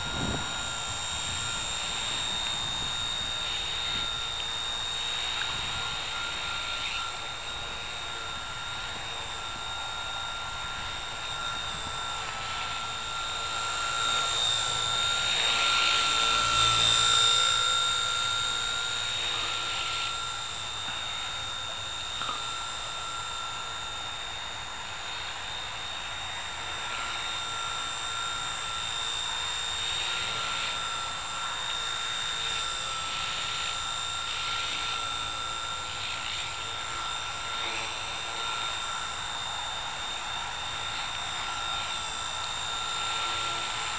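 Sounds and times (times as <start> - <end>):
toy helicopter hovering whine: 0.0 - 43.9.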